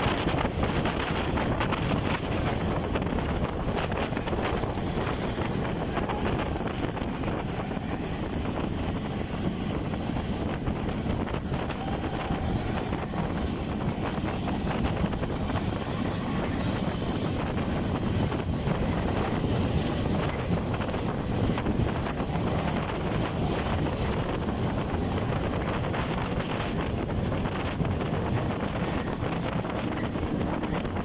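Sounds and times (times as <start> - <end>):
train carriage rumbling on track: 0.0 - 31.0
wind buffeting microphone: 0.0 - 31.0.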